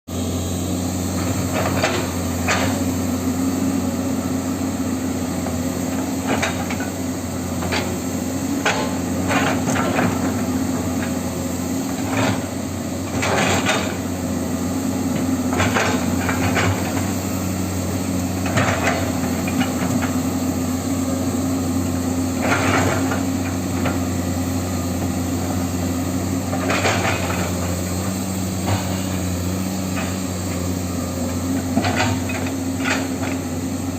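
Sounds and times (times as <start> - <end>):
electric motor and gearbox hum: 0.1 - 33.9.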